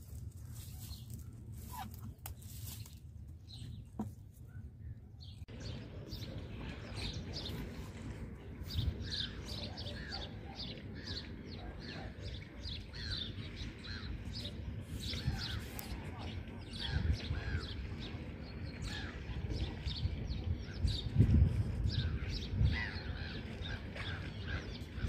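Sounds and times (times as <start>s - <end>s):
steady low rumble: 0.0s - 25.0s
birds chirping: 0.5s - 21.2s, 21.9s - 25.0s.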